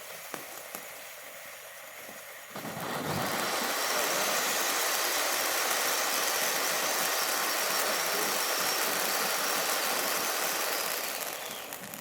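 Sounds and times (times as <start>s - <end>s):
firework fountain hissing sparks: 0.0s - 12.0s.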